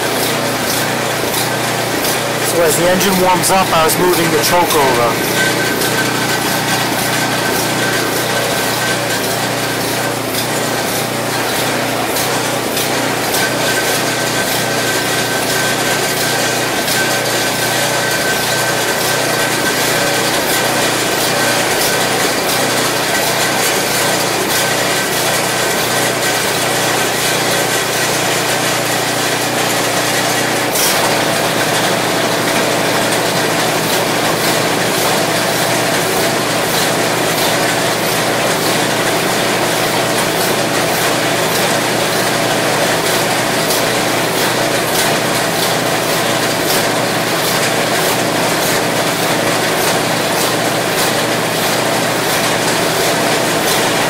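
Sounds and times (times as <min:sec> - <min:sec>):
snow blower engine running: 0:00.1 - 0:54.0.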